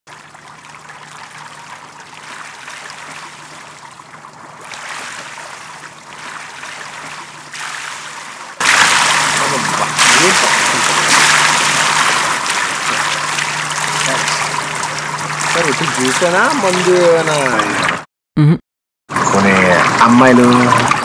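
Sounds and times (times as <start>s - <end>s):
pool water splashing: 0.1s - 18.1s, 19.1s - 21.0s.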